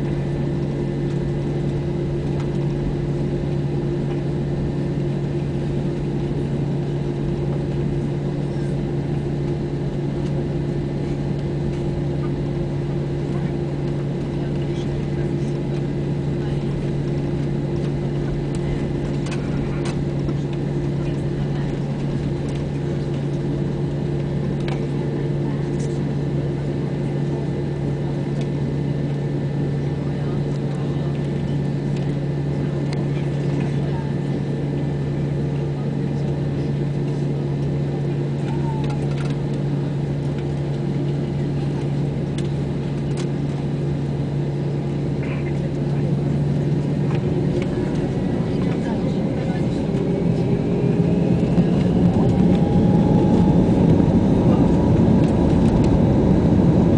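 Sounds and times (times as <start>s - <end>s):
jet engines droning: 0.0s - 56.9s
low hum: 0.0s - 56.9s.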